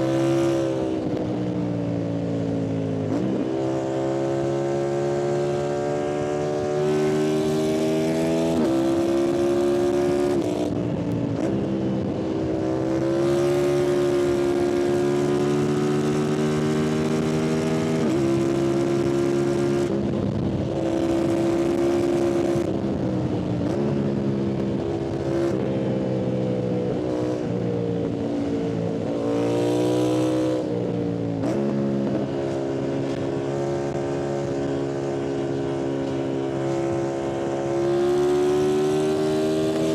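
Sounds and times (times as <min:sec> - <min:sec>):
motorcycle engine revving: 0:02.0 - 0:39.9.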